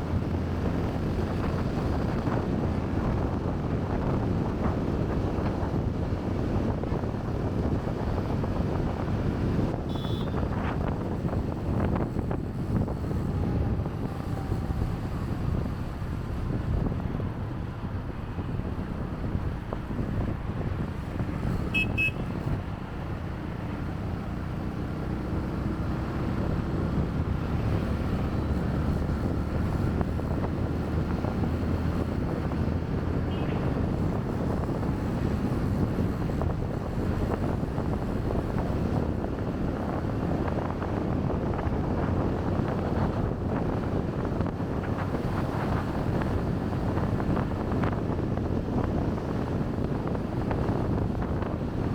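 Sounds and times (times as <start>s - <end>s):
motorbike rumble: 0.0s - 51.9s
road traffic: 0.0s - 51.9s
wind buffeting microphone: 0.0s - 51.9s.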